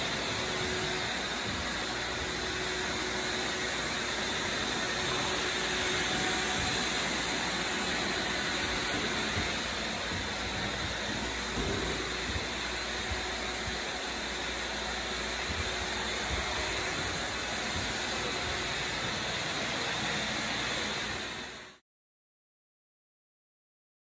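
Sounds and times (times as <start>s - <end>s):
shop vacuum running: 0.0s - 21.8s.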